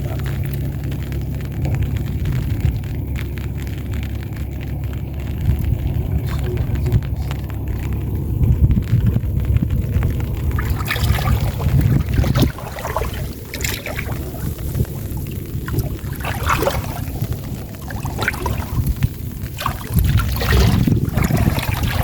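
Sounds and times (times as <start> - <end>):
water splashing and trickling: 0.0 - 22.0
wind rumbling on microphone: 0.0 - 22.0.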